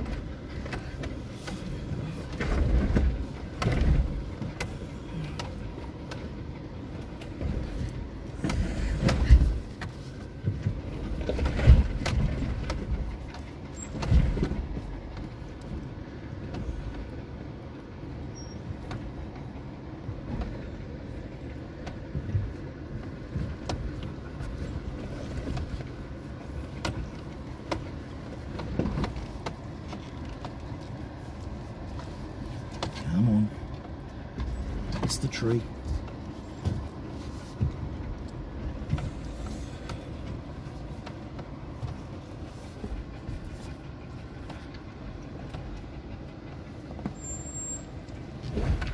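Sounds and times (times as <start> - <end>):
low engine rumble: 0.0 - 48.9.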